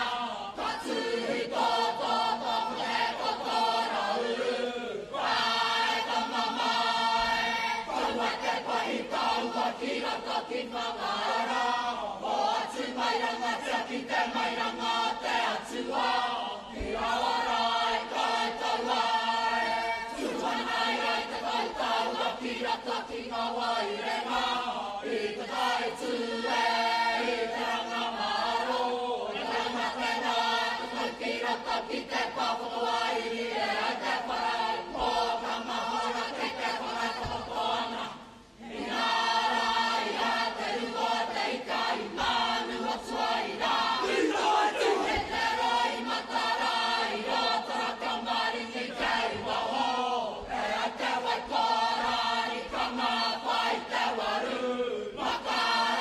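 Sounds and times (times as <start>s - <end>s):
group singing and chanting: 0.0s - 56.0s.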